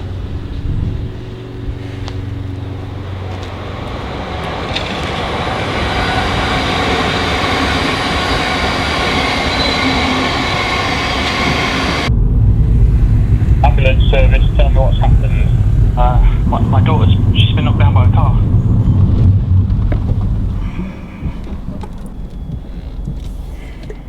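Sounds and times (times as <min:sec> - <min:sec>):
faint high whine: 0:00.0 - 0:24.0
vehicle rumbling: 0:00.0 - 0:24.0.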